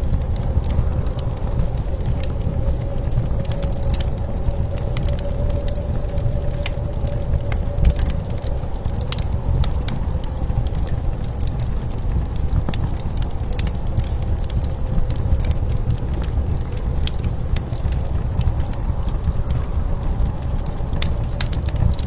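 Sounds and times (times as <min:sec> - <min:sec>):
howling blizzard wind: 0:00.0 - 0:22.0
wood fire crackling and popping: 0:00.0 - 0:22.0.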